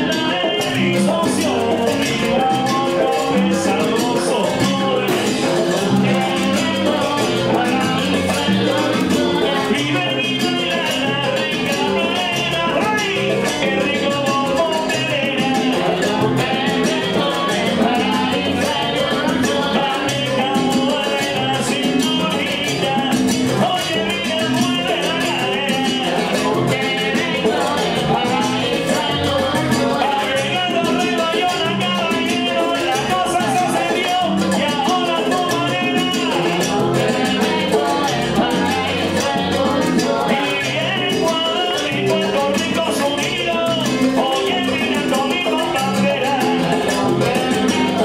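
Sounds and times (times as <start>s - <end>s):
congas: 0.0s - 48.0s
salsa band playing: 0.0s - 48.0s.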